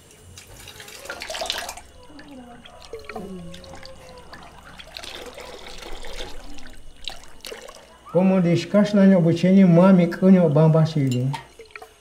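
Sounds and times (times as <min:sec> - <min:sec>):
liquid splashing in metal basin: 0:00.4 - 0:09.4, 0:11.0 - 0:12.0.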